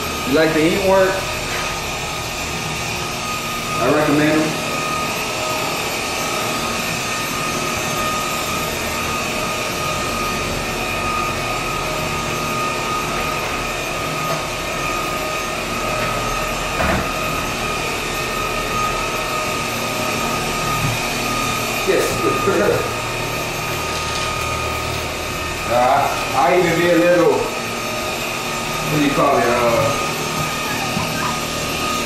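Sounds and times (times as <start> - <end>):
vacuum motor whine: 0.0 - 32.0.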